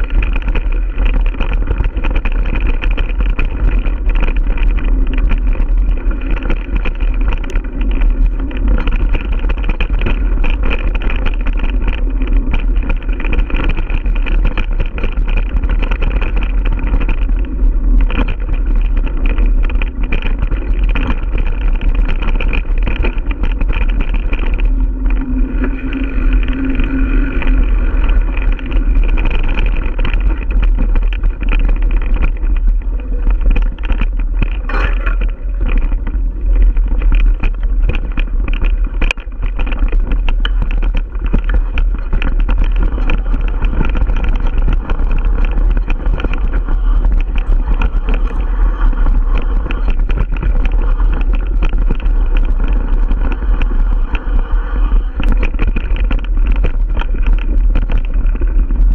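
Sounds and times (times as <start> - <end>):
bike rattling and knocking: 0.0 - 58.9
bike tyre noise: 0.0 - 58.9
wind rumble on camera: 0.0 - 58.9.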